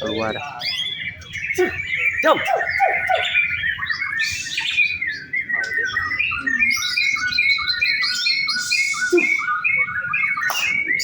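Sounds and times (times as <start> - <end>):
bird singing whistled notes: 0.0 - 11.0.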